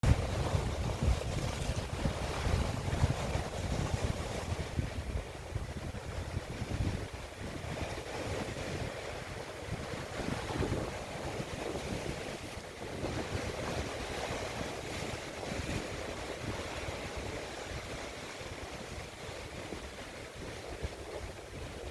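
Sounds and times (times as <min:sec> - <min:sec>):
waves: 0:00.0 - 0:21.9
wind buffeting microphone: 0:00.0 - 0:21.9.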